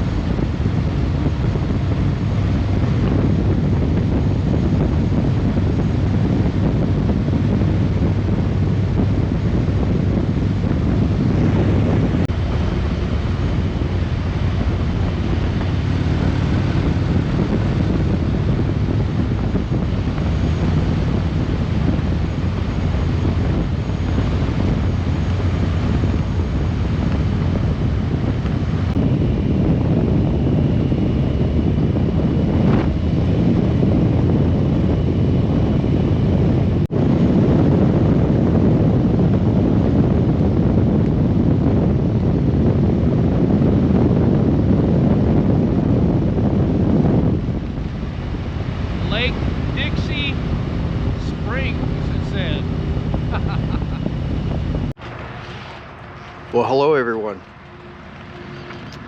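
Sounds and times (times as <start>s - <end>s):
motorcycle engine drone: 0.0s - 59.0s
road noise: 0.0s - 59.0s
wind rushing over microphone: 0.0s - 59.0s.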